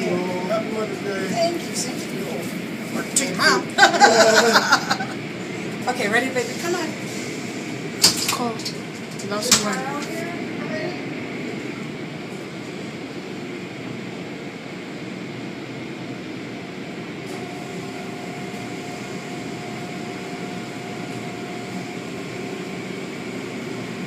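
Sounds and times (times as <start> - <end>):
car wash machinery running: 0.0 - 24.0.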